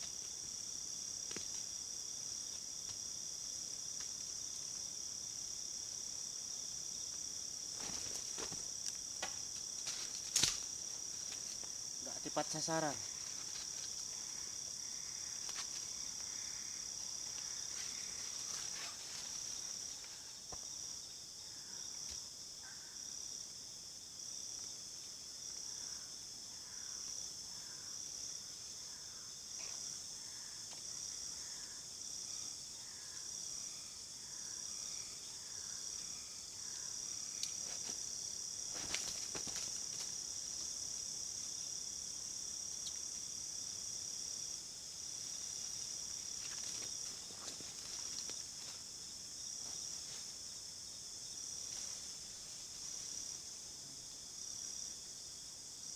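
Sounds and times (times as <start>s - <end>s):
insects trilling: 0.0s - 55.9s.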